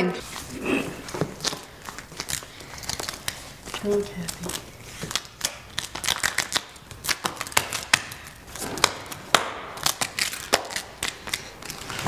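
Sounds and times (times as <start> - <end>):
paper crumpling and crackling: 0.2 - 12.0.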